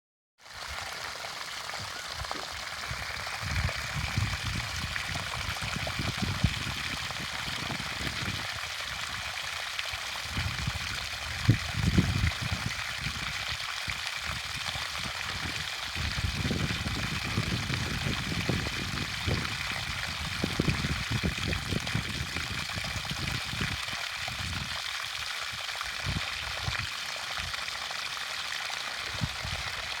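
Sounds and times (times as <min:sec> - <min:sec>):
water pouring from well: 0:00.4 - 0:30.0.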